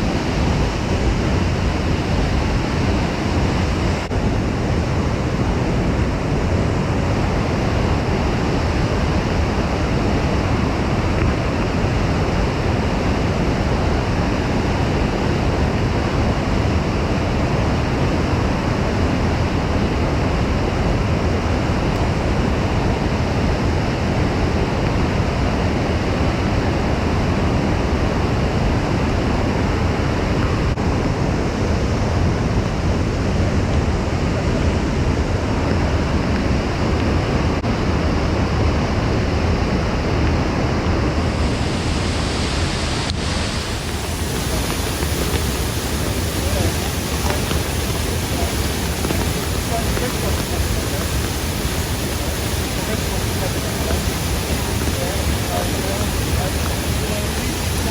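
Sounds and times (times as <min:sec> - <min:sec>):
roar of rushing water: 0:00.0 - 0:57.9.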